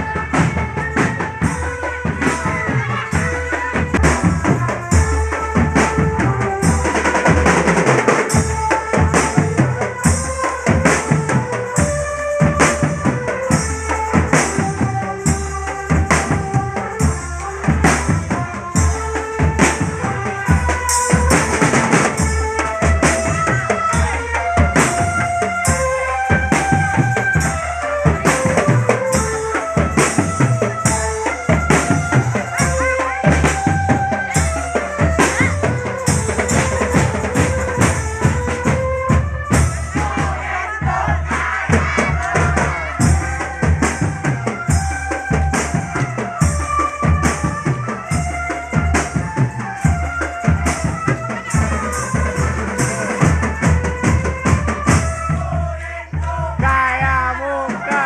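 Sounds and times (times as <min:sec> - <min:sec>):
marching band melody: 0:00.0 - 0:58.0
snare and bass drums: 0:00.0 - 0:58.0.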